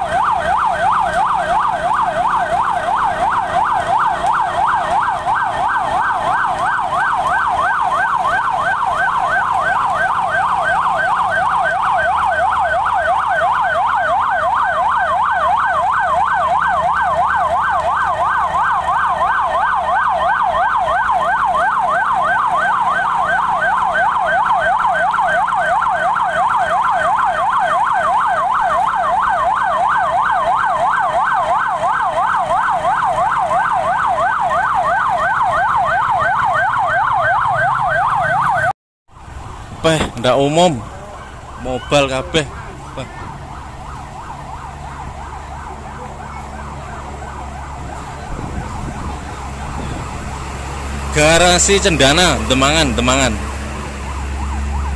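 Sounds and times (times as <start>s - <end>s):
emergency siren yelping: 0.0s - 54.9s.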